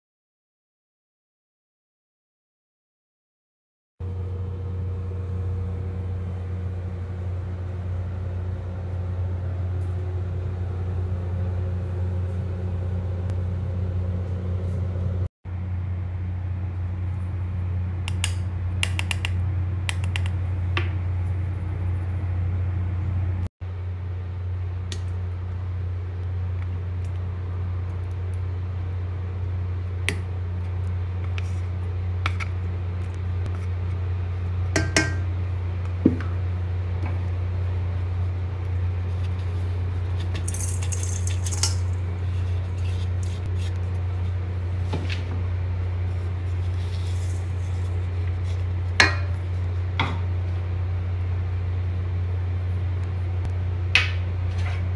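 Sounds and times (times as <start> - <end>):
steady low hum: 4.0 - 54.9.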